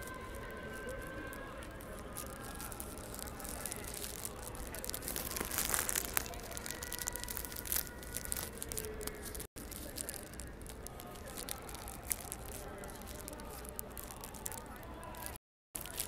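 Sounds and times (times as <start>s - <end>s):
distant voices: 0.0s - 16.0s.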